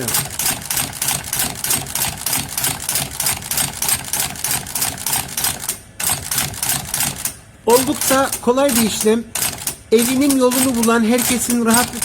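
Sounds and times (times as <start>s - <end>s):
machine clattering: 0.0s - 12.0s.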